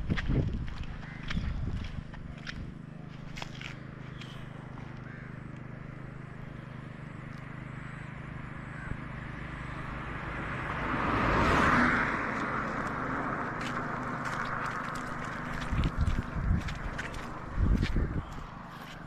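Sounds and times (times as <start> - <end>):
motorcycle engine running: 0.0 - 10.9, 12.1 - 19.0
wet road noise: 0.0 - 19.0.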